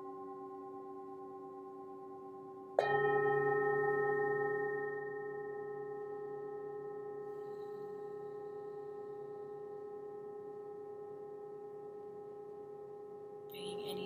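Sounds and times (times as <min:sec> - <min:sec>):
singing bowl ringing: 0:00.0 - 0:14.0.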